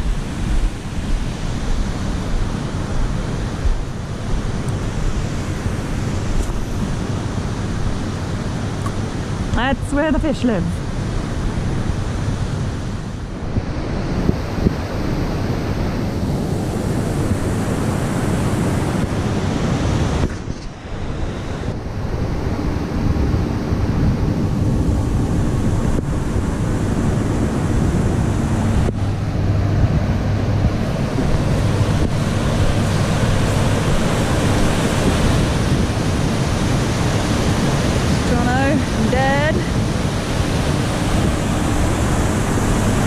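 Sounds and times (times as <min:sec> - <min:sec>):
river water rushing over a weir: 0:00.0 - 0:43.0
steady low hum: 0:00.0 - 0:43.0
wind buffeting microphone: 0:00.0 - 0:43.0.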